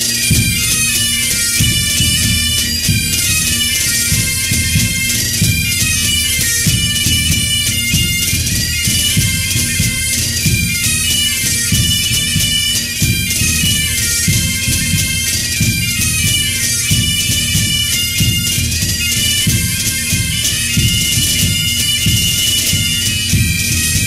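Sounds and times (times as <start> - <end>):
bagpipes playing slow tune: 0.0 - 24.0
drum beating: 0.0 - 24.0.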